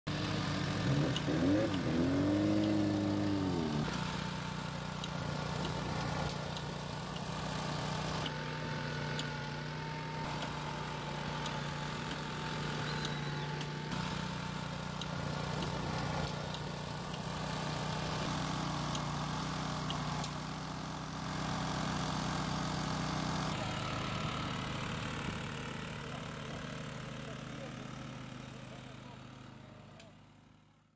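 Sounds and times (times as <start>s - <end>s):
small petrol engine running: 0.1s - 30.9s.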